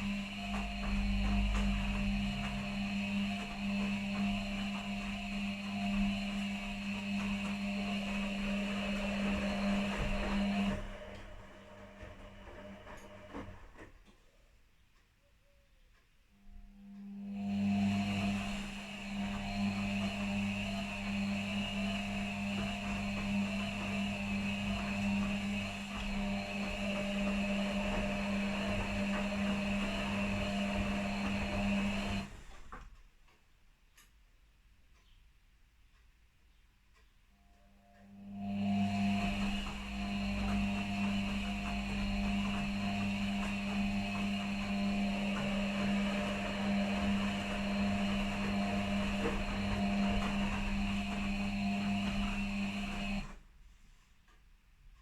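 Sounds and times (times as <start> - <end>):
washing machine motor hum: 0.0 - 14.4, 16.3 - 33.0, 37.4 - 53.9.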